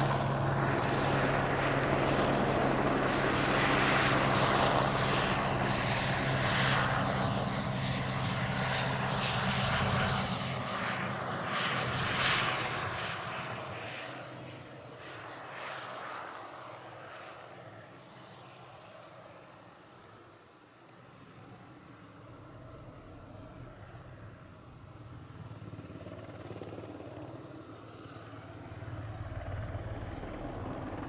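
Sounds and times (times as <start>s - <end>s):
helicopter rotor and turbine: 0.0s - 31.0s.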